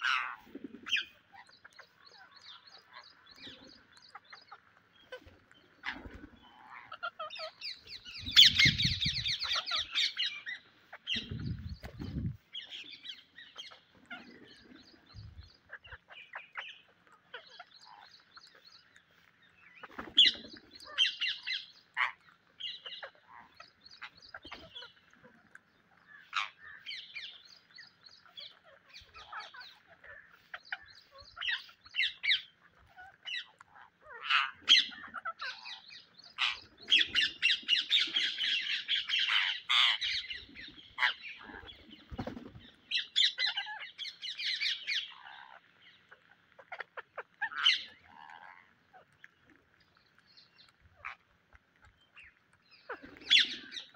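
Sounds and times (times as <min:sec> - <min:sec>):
parakeets squawking: 0:00.0 - 0:27.4, 0:28.1 - 0:49.2, 0:52.2 - 0:53.9.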